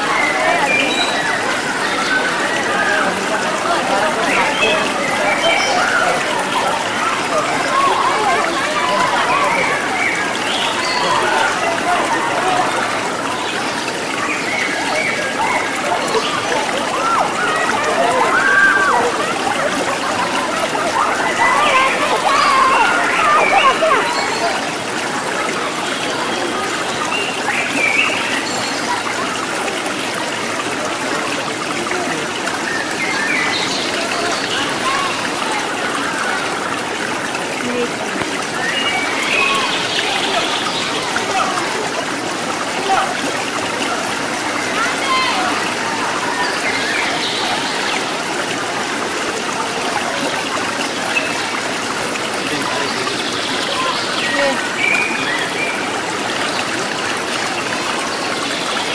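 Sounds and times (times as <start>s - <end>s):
people shouting faintly: 0.0s - 27.8s, 28.8s - 51.2s
water running steadily: 0.0s - 58.9s.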